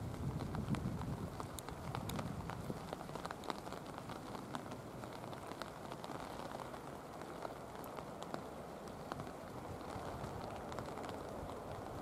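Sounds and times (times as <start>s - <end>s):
heavy rain: 0.0s - 12.0s
raindrops ticking on microphone: 0.0s - 12.0s.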